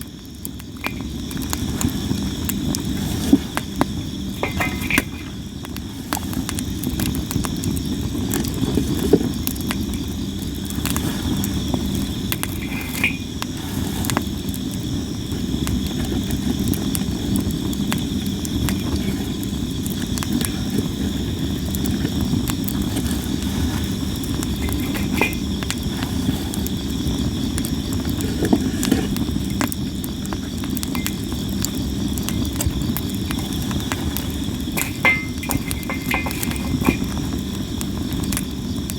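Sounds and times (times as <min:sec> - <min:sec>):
campfire crackling and popping: 0:00.0 - 0:38.9
insects trilling: 0:00.0 - 0:38.9
low rush of flames: 0:00.0 - 0:38.9.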